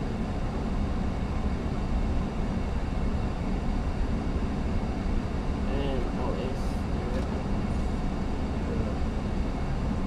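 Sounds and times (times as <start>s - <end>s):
aircraft cockpit air rush and rumble: 0.0s - 10.0s.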